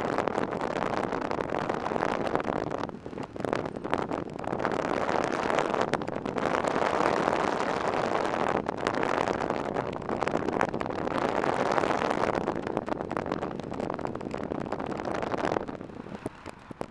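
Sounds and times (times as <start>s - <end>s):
road noise: 0.0s - 16.9s
wind noise on microphone: 0.0s - 16.9s.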